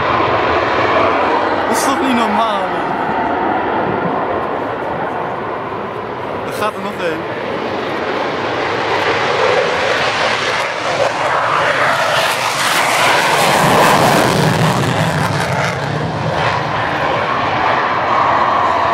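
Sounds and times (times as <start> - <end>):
jet engine roar: 0.0 - 18.9.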